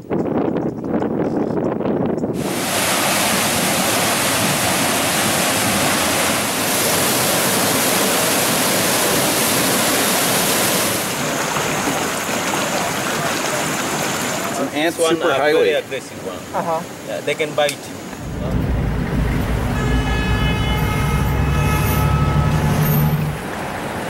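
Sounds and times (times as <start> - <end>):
wind hissing over microphone: 0.0 - 17.1, 17.9 - 24.0.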